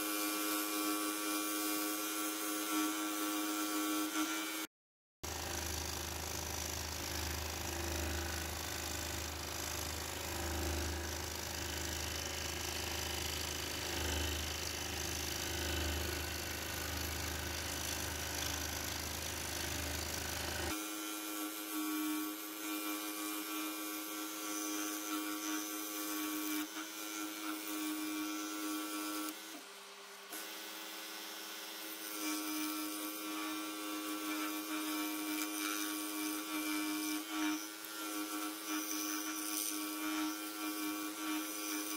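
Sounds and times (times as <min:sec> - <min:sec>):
scroll saw cutting wood: 0:00.0 - 0:41.9.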